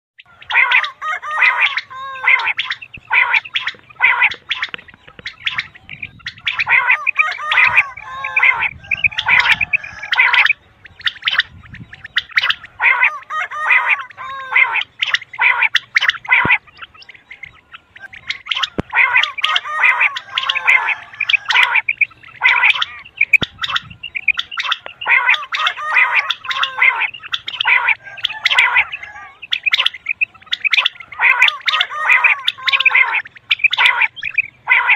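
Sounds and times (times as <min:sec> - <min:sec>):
quail calling: 0:00.2 - 0:34.9.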